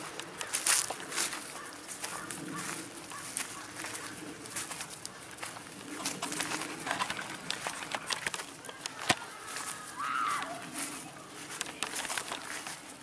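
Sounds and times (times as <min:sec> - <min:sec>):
footsteps in grass: 0:00.0 - 0:13.0.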